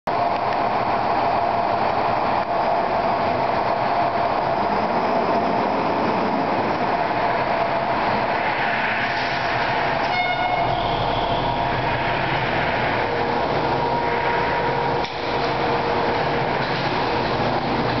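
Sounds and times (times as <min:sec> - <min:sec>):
diesel engine running: 0:00.1 - 0:18.0.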